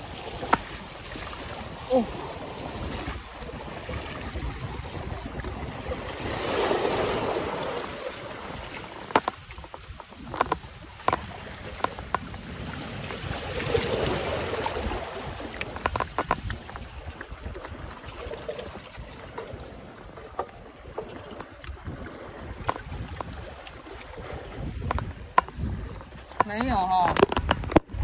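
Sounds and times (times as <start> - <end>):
low wind rumble: 0.0 - 28.0
surf washing onto beach: 0.0 - 28.0.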